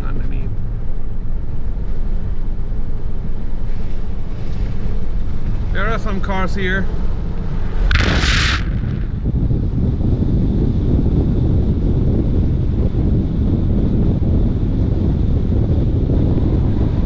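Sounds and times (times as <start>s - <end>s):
car driving rumble: 0.0s - 17.0s
wind on microphone: 3.0s - 17.0s.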